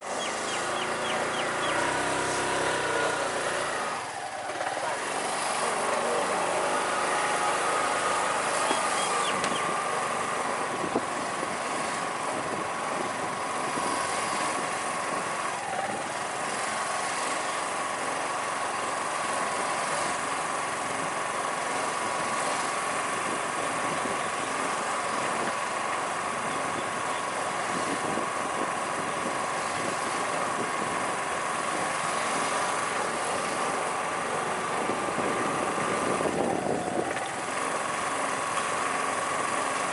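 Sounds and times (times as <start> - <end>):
constant high whine: 0.0 - 39.9
sports car engines idling: 0.0 - 39.9.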